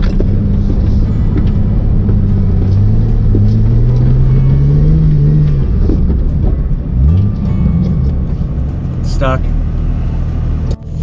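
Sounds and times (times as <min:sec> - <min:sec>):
car engine pulling: 0:00.0 - 0:11.0.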